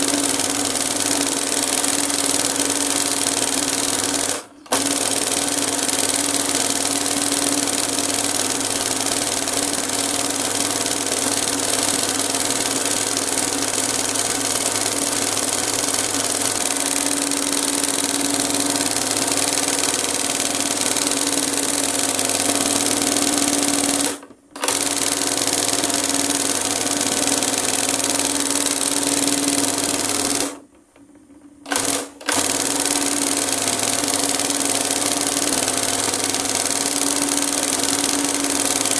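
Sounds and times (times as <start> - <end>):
sewing machine stitching clatter: 0.0 - 30.7, 31.6 - 38.9.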